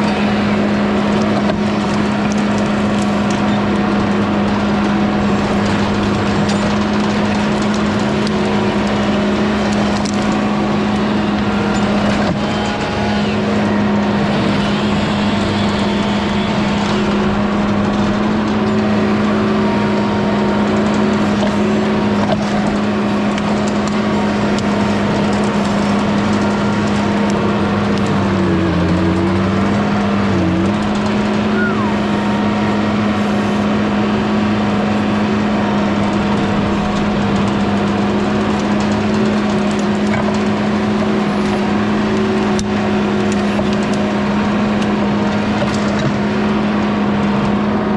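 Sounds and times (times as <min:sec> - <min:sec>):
skid steer engine running: 0:00.0 - 0:47.9.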